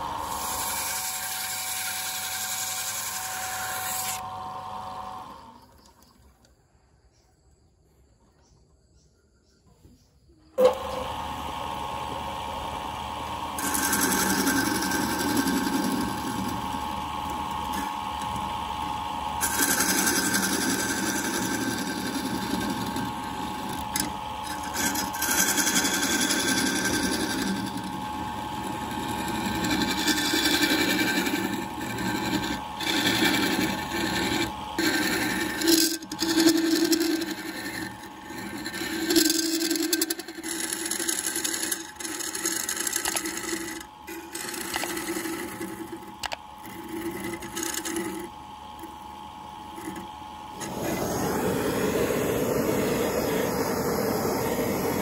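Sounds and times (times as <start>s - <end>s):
lathe motor humming: 0.0s - 5.6s, 10.6s - 55.0s
chisel cutting spinning wood: 0.0s - 6.1s, 10.6s - 55.0s.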